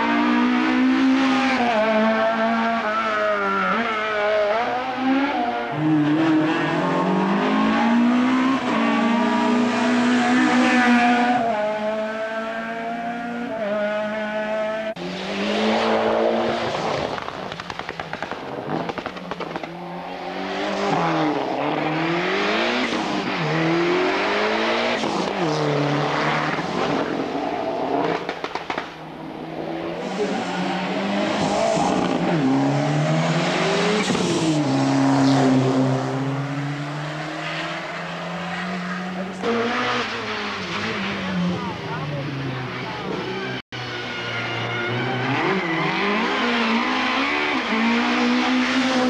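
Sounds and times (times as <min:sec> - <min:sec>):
race car engines revving: 0:00.0 - 0:49.0.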